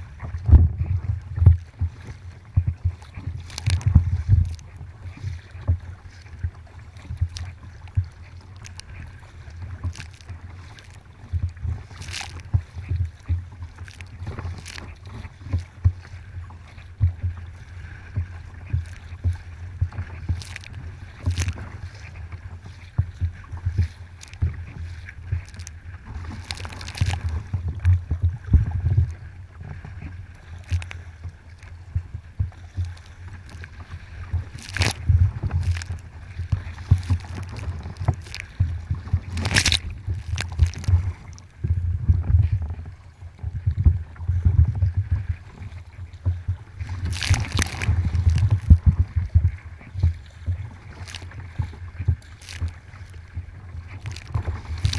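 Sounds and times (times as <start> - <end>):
constant low rumble: 0.0 - 54.9
paddle strokes splashing: 0.0 - 54.9
water slapping against hull: 0.0 - 54.9.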